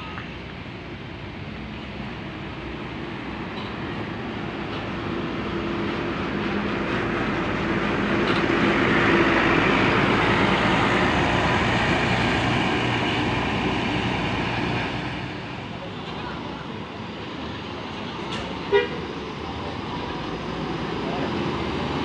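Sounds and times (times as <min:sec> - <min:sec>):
bus passing by: 0:00.0 - 0:22.0.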